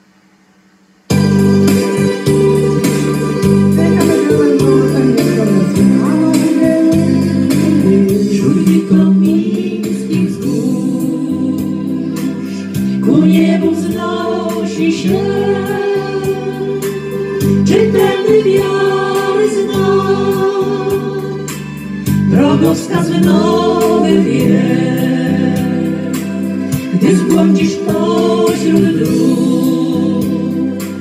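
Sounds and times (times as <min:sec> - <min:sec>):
backing track with bass and beat: 0:01.1 - 0:31.0
woman singing into microphone: 0:03.7 - 0:21.6, 0:22.3 - 0:31.0.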